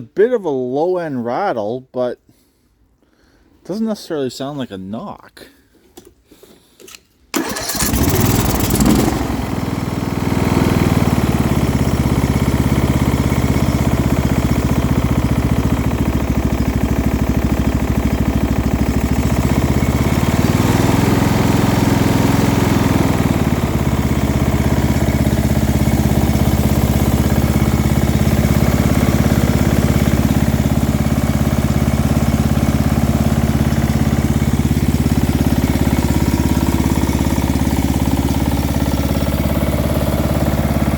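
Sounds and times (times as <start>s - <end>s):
lawn mower engine running: 7.3s - 40.9s.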